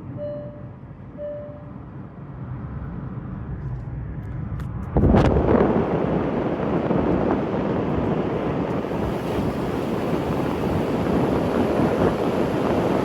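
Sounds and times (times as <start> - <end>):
wind buffeting microphone: 2.0 - 13.0.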